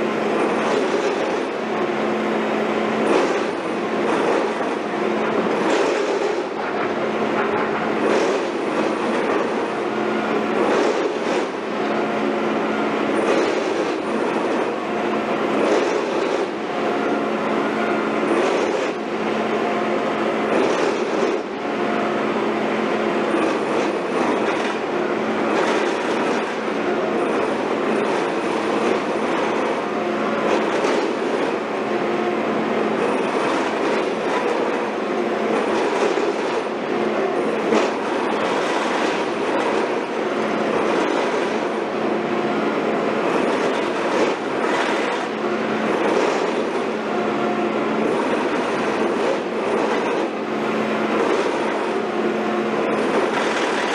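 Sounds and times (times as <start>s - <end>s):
construction machinery engine hum: 0.0s - 53.9s.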